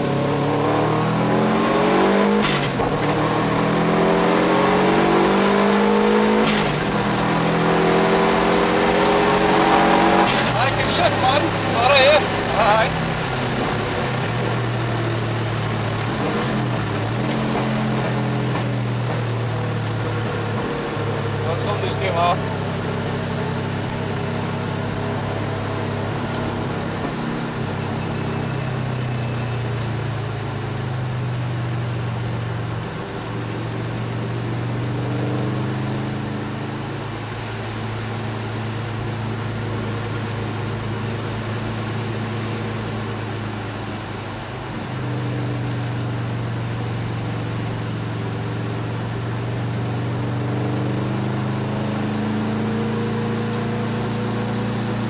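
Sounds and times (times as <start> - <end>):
car engine under load: 0.0 - 55.0.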